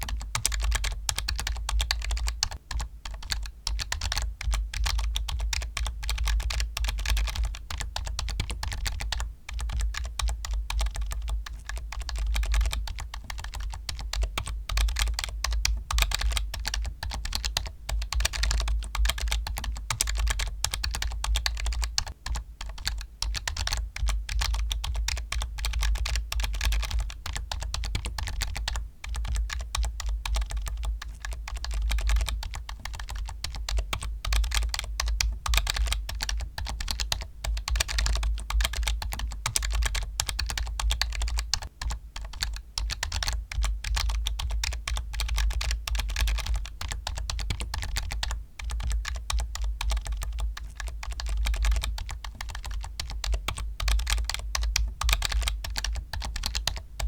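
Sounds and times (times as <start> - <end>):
keyboard typing: 0.0 - 57.0.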